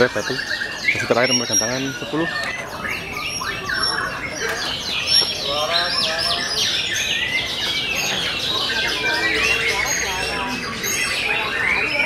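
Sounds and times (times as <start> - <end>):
birds singing whistles and chirps: 0.0 - 12.0.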